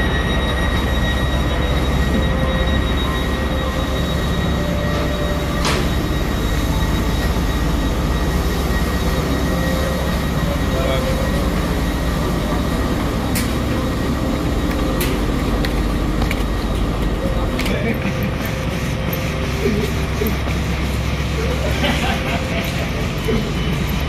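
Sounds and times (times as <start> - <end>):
faint high whine: 0.0 - 21.7
train rumble and hum: 0.0 - 24.0.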